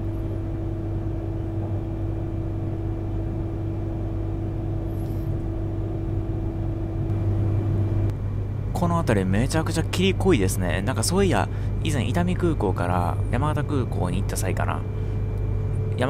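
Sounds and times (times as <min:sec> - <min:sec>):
constant hum: 0:00.0 - 0:16.0
train cabin low rumble: 0:00.0 - 0:16.0.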